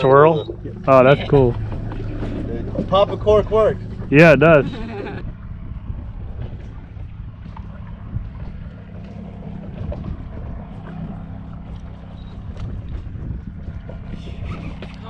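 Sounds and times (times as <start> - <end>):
boat motor humming: 0.0 - 15.0
wind on microphone: 0.0 - 15.0.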